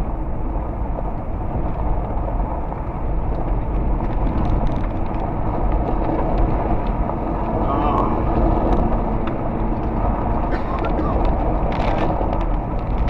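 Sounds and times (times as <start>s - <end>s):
vehicle cabin road rumble: 0.0s - 13.0s.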